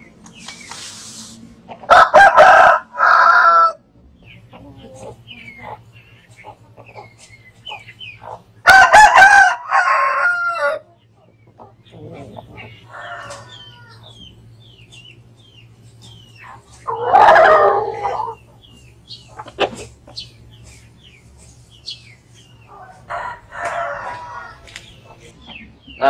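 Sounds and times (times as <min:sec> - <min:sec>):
roosters crowing: 0:01.6 - 0:26.0.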